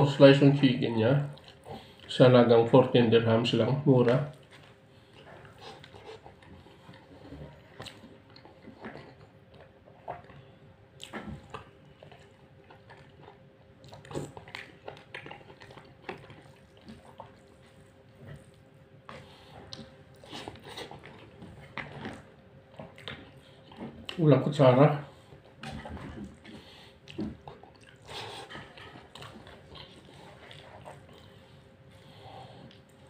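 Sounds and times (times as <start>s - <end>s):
faint steady hum: 0.0s - 33.0s
person chewing: 1.3s - 2.1s, 4.3s - 24.2s, 25.1s - 33.0s.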